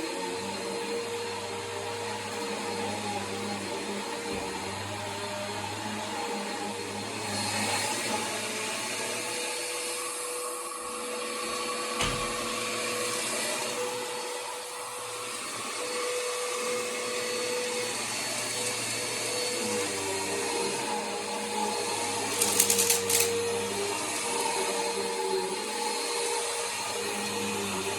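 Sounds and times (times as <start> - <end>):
vacuum cleaner motor whine: 0.0 - 27.9.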